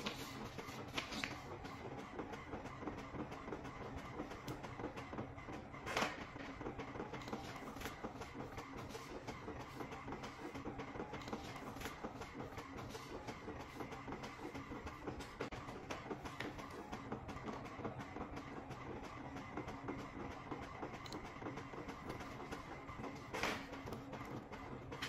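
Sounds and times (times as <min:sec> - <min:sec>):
printer low hum: 0:00.0 - 0:25.0
printer mechanical ticks: 0:00.0 - 0:25.0.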